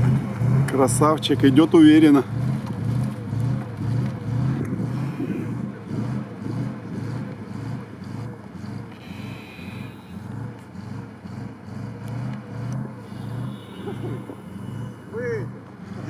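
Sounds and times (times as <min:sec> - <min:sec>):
truck engine labouring: 0:00.0 - 0:16.0.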